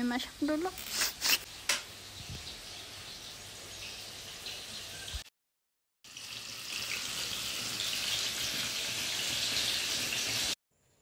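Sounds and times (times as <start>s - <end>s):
fritters sizzling in hot oil: 0.0s - 5.3s, 6.1s - 10.6s.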